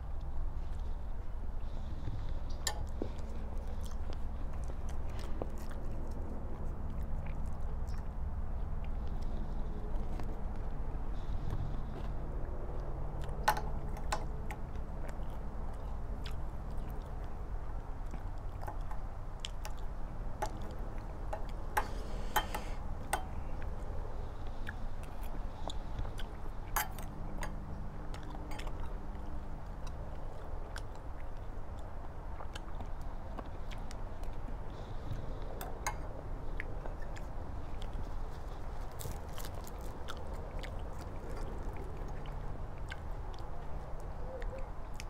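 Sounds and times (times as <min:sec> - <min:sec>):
person chewing: 0:00.0 - 0:45.0.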